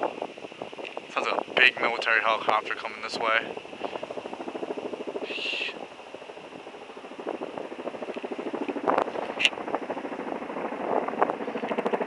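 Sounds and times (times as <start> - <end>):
helicopter rotor blades beating: 0.0 - 12.0.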